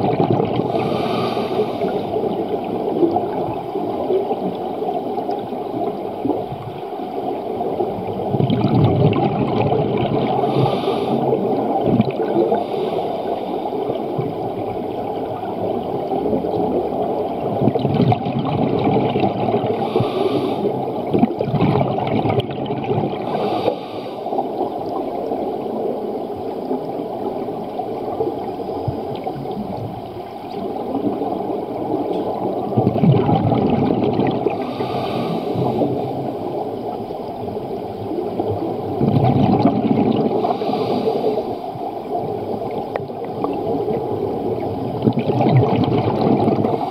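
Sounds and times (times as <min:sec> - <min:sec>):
diver exhaled bubbles gurgling: 0:00.0 - 0:46.9
underwater water rush: 0:00.0 - 0:46.9.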